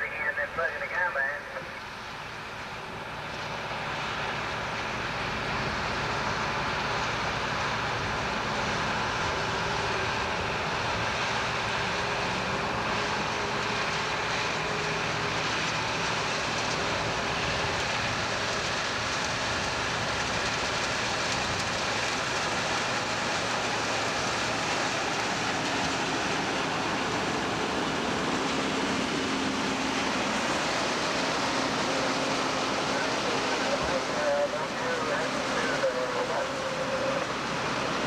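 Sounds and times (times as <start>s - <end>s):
combine harvester machinery: 0.0s - 38.0s.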